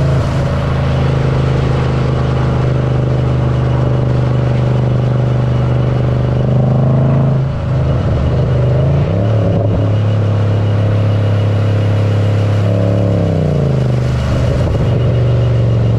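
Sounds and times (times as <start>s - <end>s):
car engine and exhaust revving: 0.0s - 15.9s.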